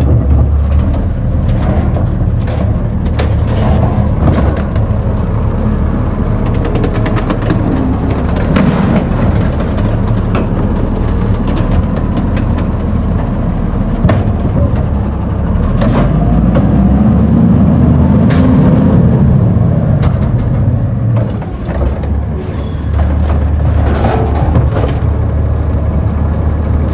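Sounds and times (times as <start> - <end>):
clanks and rattles: 0.0 - 17.0, 19.7 - 26.9
truck engine running: 0.0 - 26.9.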